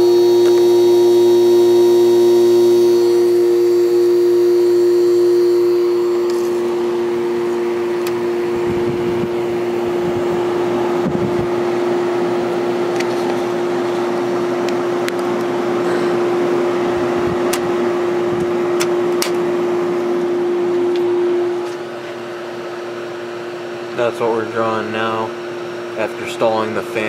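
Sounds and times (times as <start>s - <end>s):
air conditioner compressor humming: 0.0s - 27.0s.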